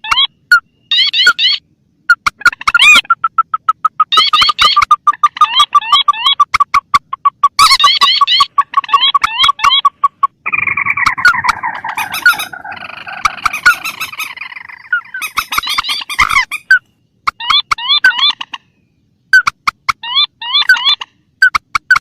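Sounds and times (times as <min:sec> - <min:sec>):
chorus of overlapping bird calls: 0:00.0 - 0:21.6
wetland rail calls: 0:00.0 - 0:22.0.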